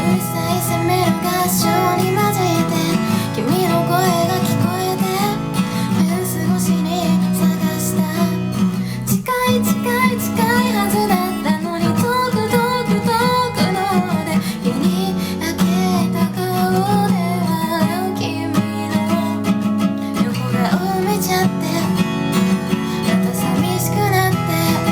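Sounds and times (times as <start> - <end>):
acoustic guitar strumming: 0.0 - 24.9
woman singing a ballad: 0.0 - 24.9.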